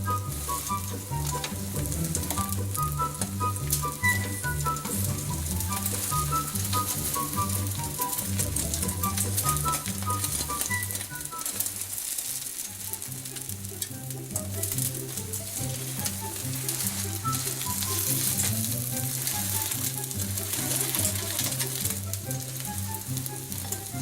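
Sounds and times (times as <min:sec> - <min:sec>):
background music melody: 0:00.0 - 0:24.0
egg sizzling in a frying pan: 0:00.0 - 0:24.0.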